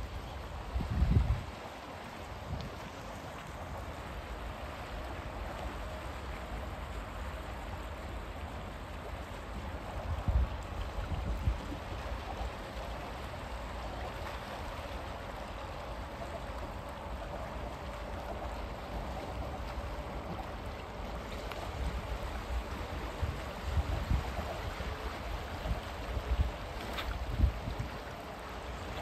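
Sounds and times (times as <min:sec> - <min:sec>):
waves lapping on rocky shore: 0:00.0 - 0:29.0.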